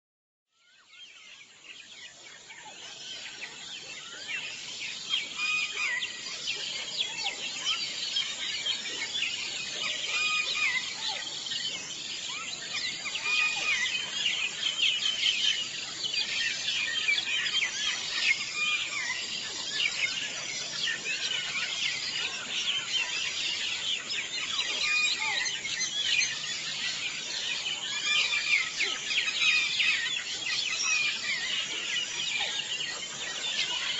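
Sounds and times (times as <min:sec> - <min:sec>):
birds chirping in chorus: 0:00.6 - 0:33.9.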